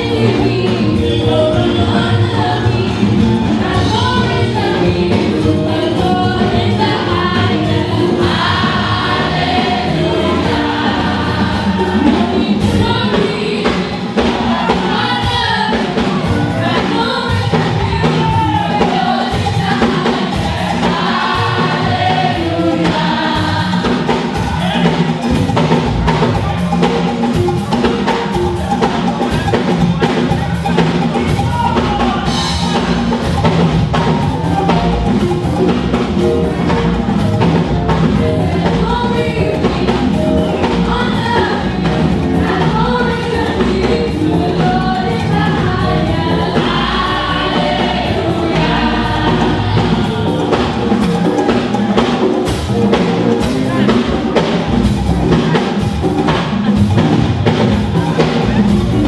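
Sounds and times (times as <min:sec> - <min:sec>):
choir singing gospel: 0:00.0 - 0:59.0
drums and percussion beat: 0:00.0 - 0:59.0.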